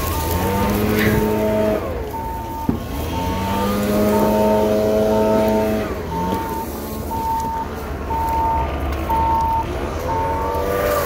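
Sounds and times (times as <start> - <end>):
heavy diesel engine revving: 0.0 - 11.0
reversing alarm beeping: 0.0 - 11.0.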